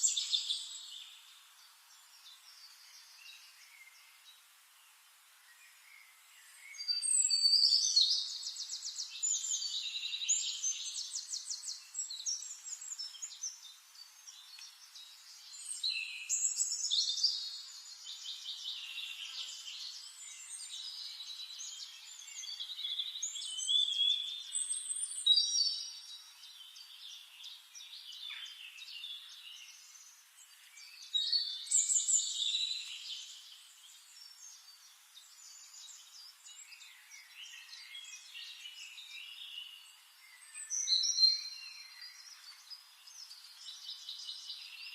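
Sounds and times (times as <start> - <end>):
songbirds trilling and warbling: 0.0 - 44.9.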